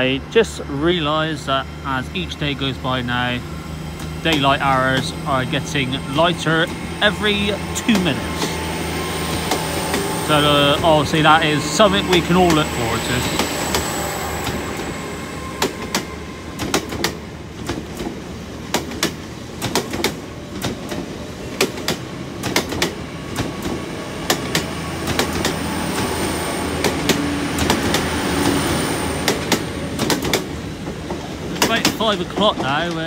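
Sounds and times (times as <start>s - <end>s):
train wheels clicking over rail joints: 1.9s - 33.0s.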